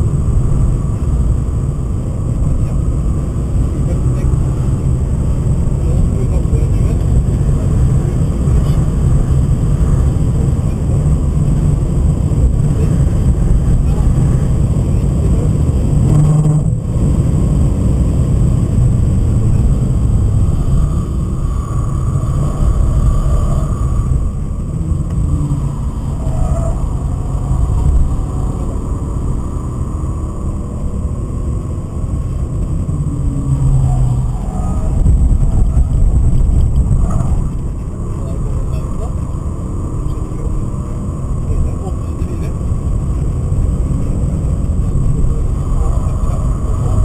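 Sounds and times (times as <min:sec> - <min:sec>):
car engine revving: 0:00.0 - 0:47.0
road and wind noise: 0:00.0 - 0:47.0.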